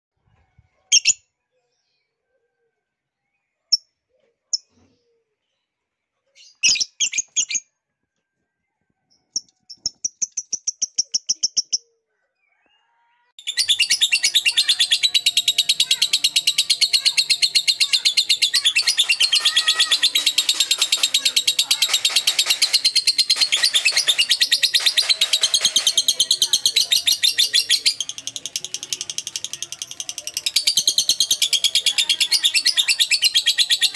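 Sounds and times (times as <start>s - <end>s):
bird chirping: 3.2s - 7.8s, 9.0s - 33.9s.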